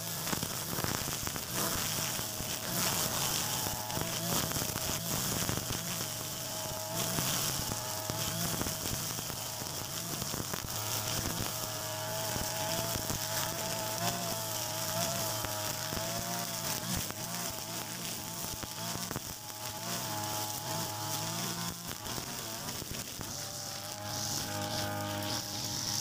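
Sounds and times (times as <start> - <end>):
brush cutter engine whine: 0.0 - 26.0
spinning line hissing: 0.0 - 26.0.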